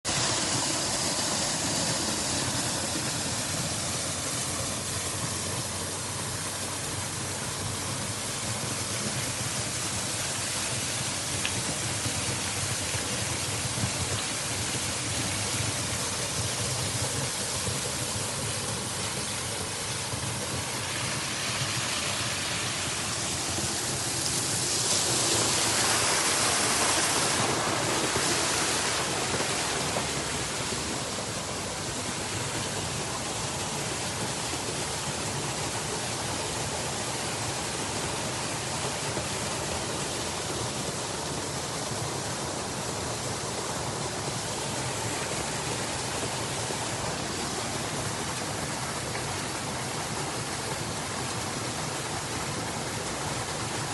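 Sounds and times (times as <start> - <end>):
water pouring into a pool: 0.0 - 53.9.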